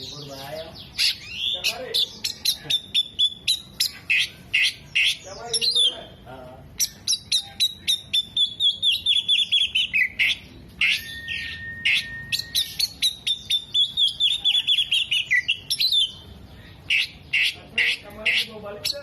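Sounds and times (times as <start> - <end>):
bird singing: 0.0 - 19.0.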